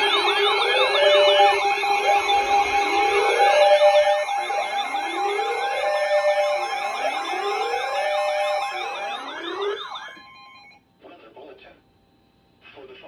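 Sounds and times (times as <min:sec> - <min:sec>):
electronic sirens wailing: 0:00.0 - 0:10.8
fast warbling siren yelp: 0:00.0 - 0:10.8
steady siren tone: 0:00.0 - 0:10.8.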